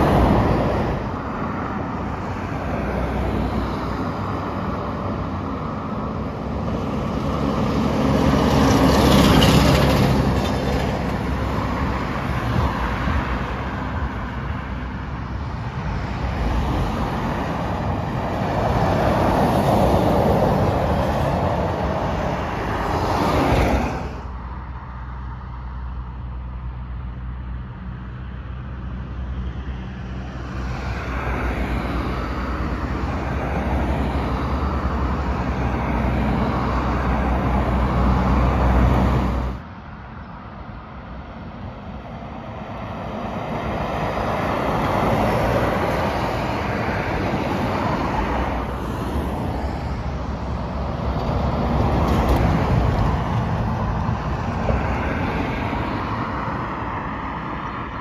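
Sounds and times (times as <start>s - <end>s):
diesel engines droning: 0.0s - 58.0s
vehicles passing on road: 0.0s - 58.0s.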